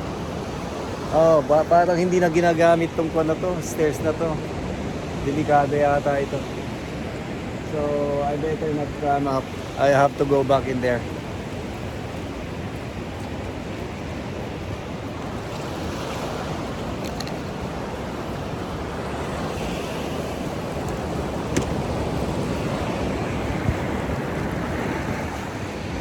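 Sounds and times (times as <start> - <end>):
ocean surf washing ashore: 0.0 - 26.0
wind buffeting microphone: 0.0 - 26.0.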